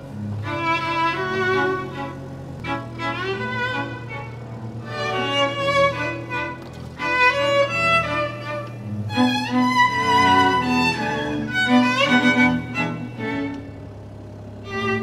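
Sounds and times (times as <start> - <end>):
steady low drone: 0.0 - 15.0
violin melody: 0.0 - 15.0.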